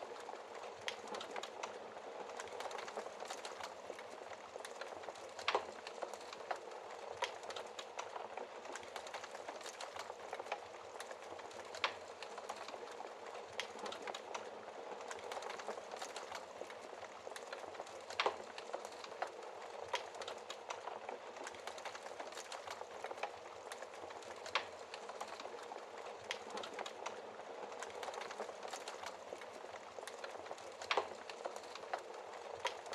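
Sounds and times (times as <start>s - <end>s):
wood fire crackling: 0.0s - 32.9s
loud fire snaps: 0.1s - 32.9s.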